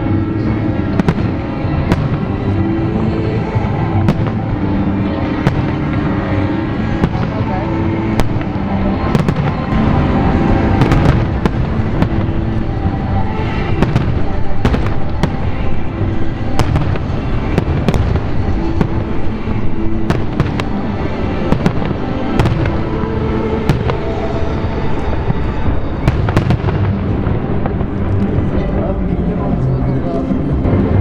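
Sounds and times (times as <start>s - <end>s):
fireworks bangs and cracks: 0.0s - 28.9s
music playing: 0.0s - 31.0s.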